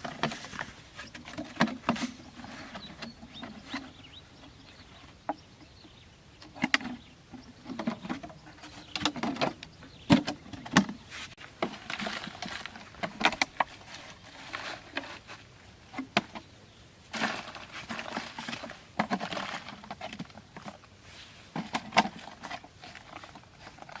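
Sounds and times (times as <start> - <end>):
rustling: 0.0 - 5.2, 6.5 - 24.0.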